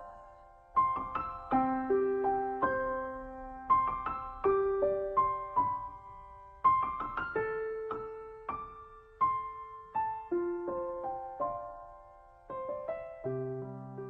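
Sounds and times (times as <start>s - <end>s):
slow gentle solo piano: 0.0s - 14.0s.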